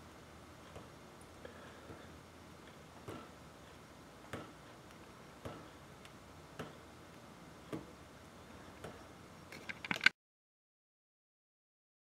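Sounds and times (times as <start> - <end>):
low background noise: 0.0 - 10.1.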